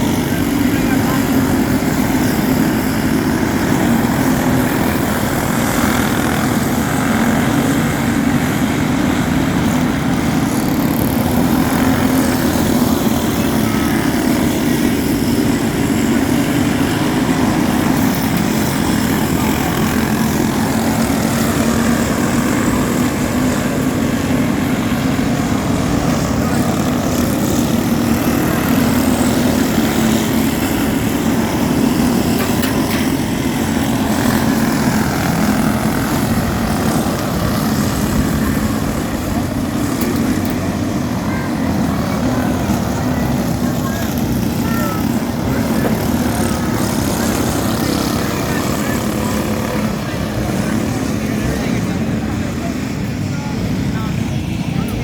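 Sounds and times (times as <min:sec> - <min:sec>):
motorcycle engines droning: 0:00.0 - 0:55.0.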